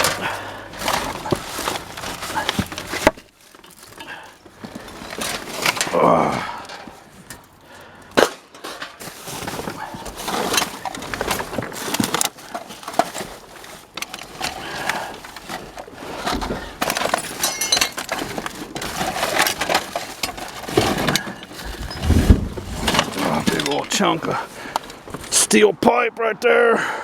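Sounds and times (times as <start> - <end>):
scrap metal clattering: 0.0 - 25.4.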